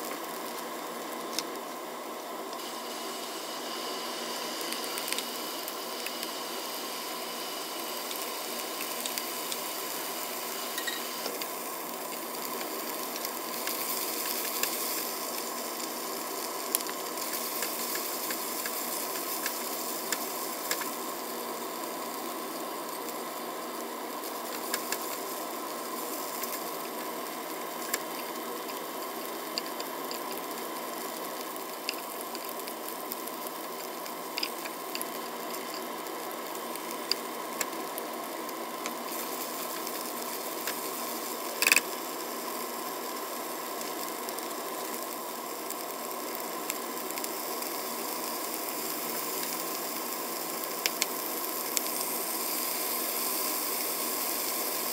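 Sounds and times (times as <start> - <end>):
meat sizzling in a frying pan: 0.0 - 54.9.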